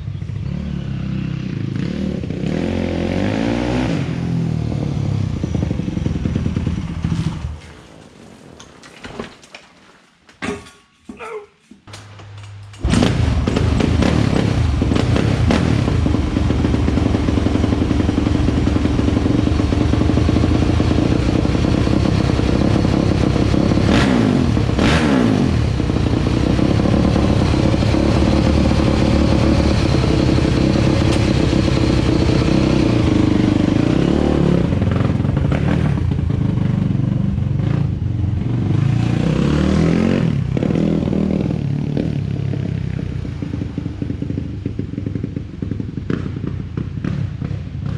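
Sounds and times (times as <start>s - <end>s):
motorcycle engine revving: 0.0s - 7.8s, 12.8s - 47.9s.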